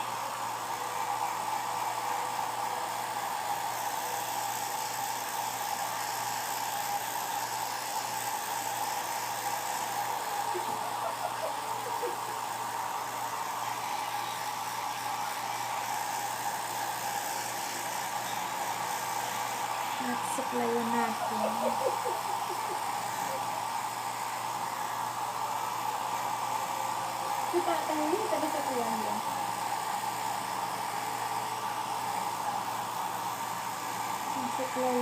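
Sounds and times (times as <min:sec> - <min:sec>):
hair dryer running: 0:00.0 - 0:35.0.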